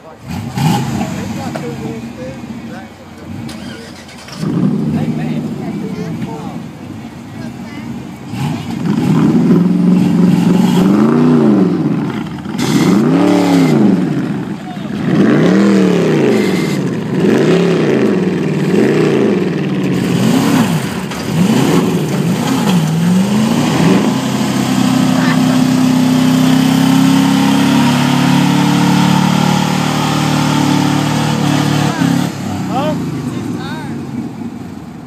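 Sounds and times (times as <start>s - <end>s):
truck engine revving under load: 0.0s - 35.0s.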